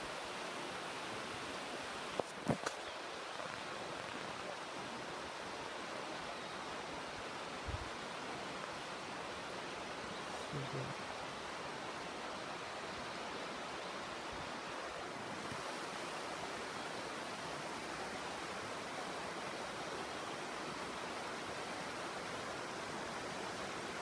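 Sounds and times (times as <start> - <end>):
river water rushing over rapids: 0.0 - 24.0.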